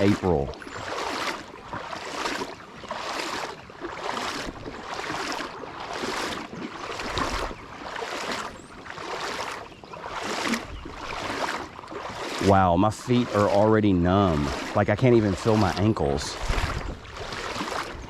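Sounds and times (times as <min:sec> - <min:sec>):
footsteps splashing in river: 0:00.0 - 0:18.0.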